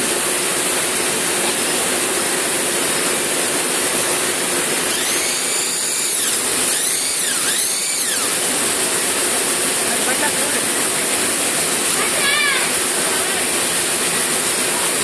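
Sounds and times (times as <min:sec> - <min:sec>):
bag-closing machine motor whine: 0:00.0 - 0:15.0
loud steady machine noise: 0:00.0 - 0:15.0.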